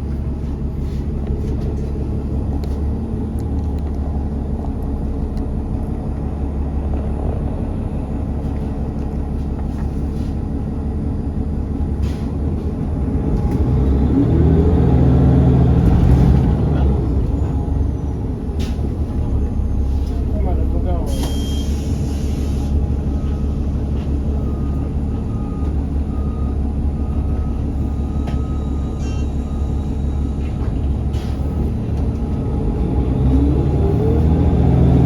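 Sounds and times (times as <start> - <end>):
bus engine rumble: 0.0 - 35.0.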